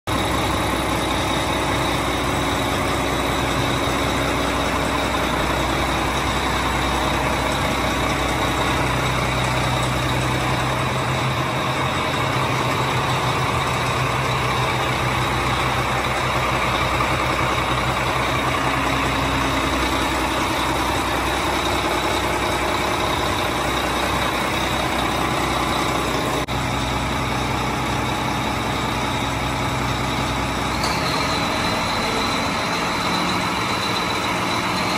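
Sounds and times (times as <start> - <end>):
marine diesel engine running: 0.1 - 34.9.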